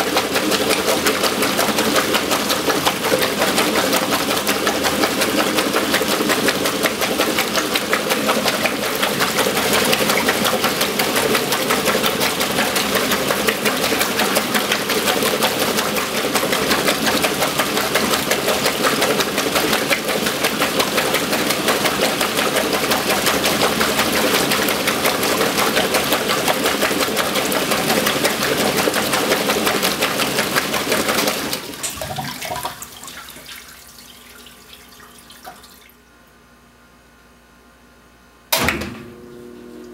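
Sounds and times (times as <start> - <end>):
washing machine motor running: 0.0 - 35.8, 38.5 - 39.9
water churning: 0.0 - 35.8.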